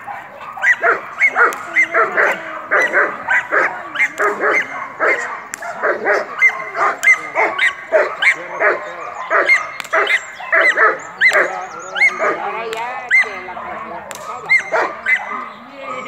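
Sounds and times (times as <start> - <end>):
dog barking excitedly: 0.0 - 16.0
dog yipping: 0.0 - 16.0.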